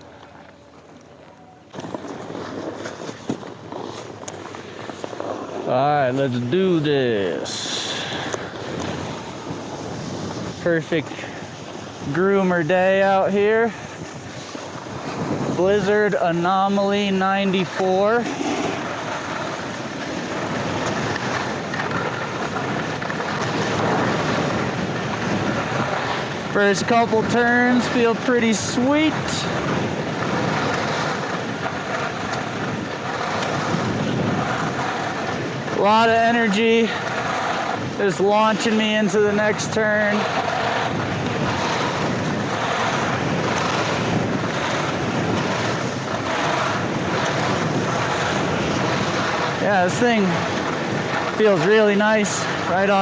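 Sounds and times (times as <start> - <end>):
skis scraping on snow: 0.0 - 53.0
wind on microphone: 1.8 - 53.0.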